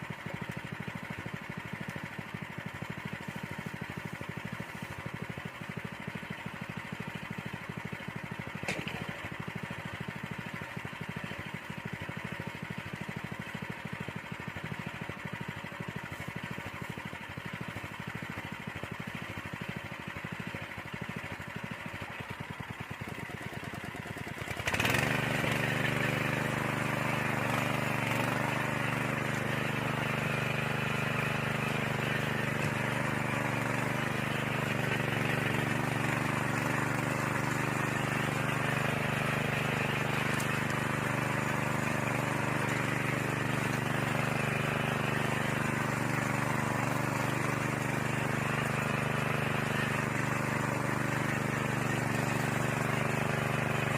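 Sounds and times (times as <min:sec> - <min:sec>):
tiller engine running: 0:00.0 - 0:53.9.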